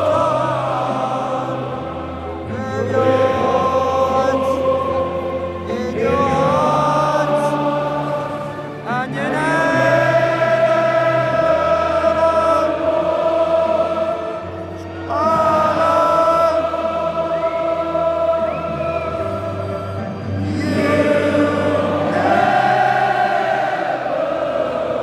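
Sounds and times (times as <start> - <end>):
choir singing with orchestra: 0.0 - 25.0.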